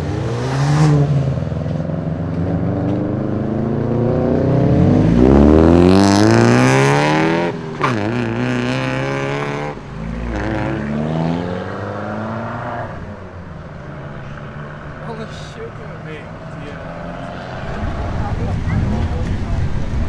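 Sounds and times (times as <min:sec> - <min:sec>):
car engine revving through gears: 0:00.0 - 0:20.0.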